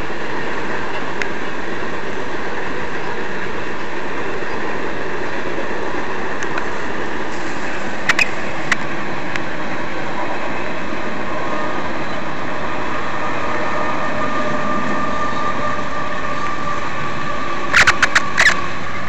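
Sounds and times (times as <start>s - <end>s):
faint high whine: 0.0s - 19.0s
steel wheels rumbling on rail: 0.0s - 19.0s.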